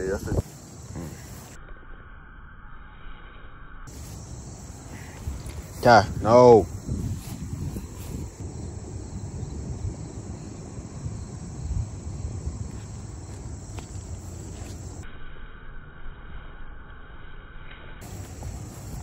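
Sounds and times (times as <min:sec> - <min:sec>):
high-pitched insect buzz: 0:00.0 - 0:19.0.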